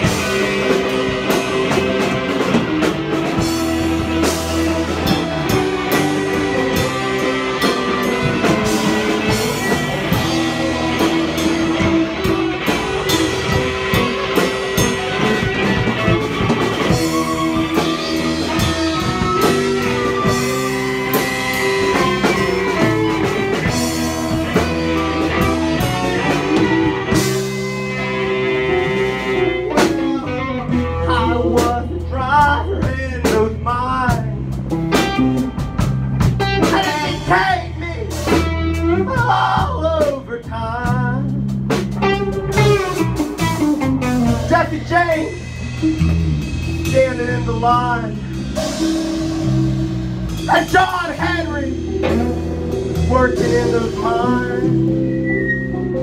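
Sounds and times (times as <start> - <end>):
live band playing: 0.0 - 56.0.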